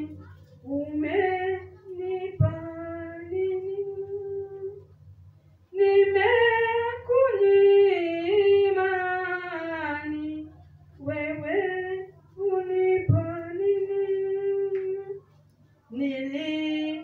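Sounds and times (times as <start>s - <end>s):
woman singing unaccompanied: 0.0s - 5.0s, 5.7s - 17.0s
steady low hum: 0.0s - 17.0s.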